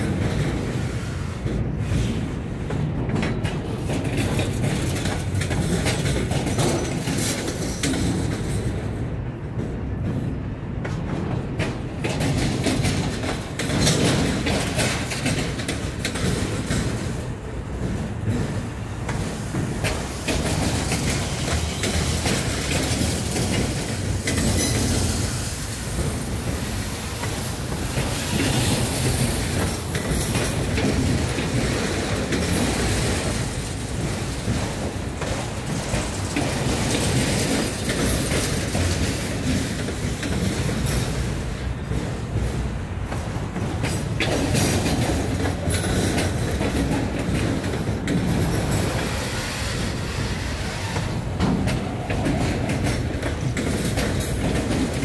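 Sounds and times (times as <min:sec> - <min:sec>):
low train rumble: 0:00.0 - 0:55.0
train wheels clattering over rail joints: 0:00.0 - 0:55.0.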